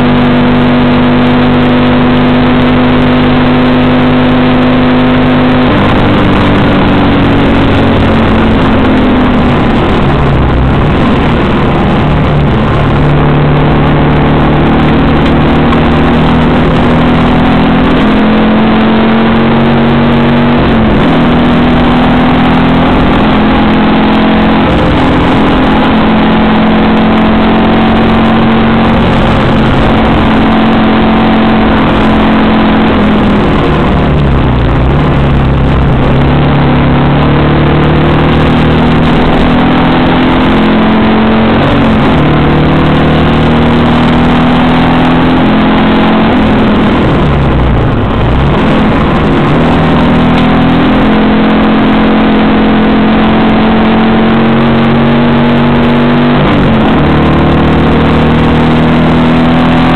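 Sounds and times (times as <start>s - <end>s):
car engine from inside cabin: 0.0s - 59.9s.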